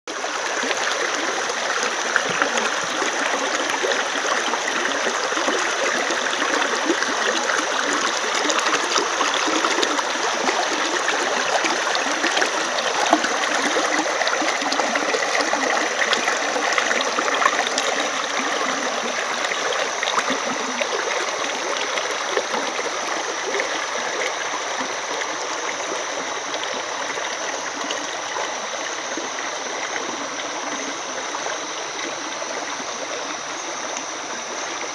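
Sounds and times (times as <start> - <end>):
stream babbling over rocks: 0.1 - 34.9.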